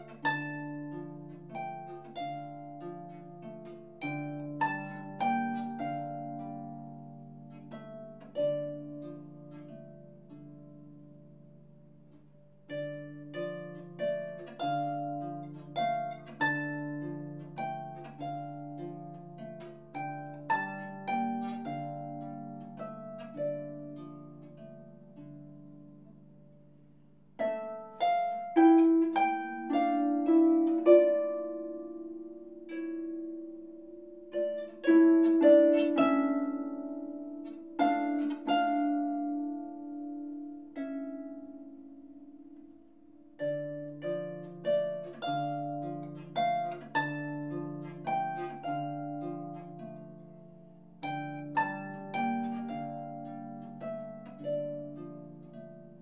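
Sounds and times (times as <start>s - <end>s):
harp plucked melody and chords: 0.0s - 56.0s.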